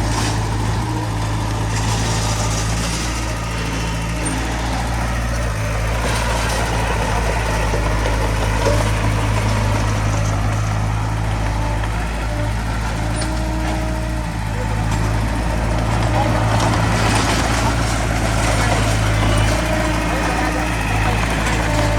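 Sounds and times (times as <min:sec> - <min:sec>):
diesel engine droning: 0:00.0 - 0:21.9.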